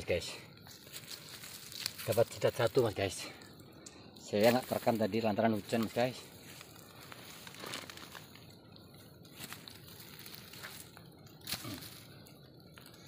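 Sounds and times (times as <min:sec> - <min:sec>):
dry leaves rustling and crackling: 0:00.1 - 0:03.4, 0:04.3 - 0:13.0.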